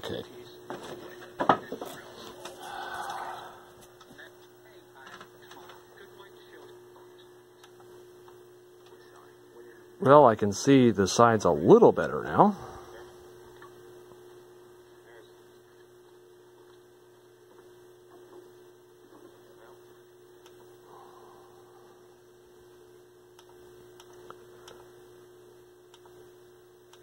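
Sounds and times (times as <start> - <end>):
television mains hum: 0.0 - 27.0.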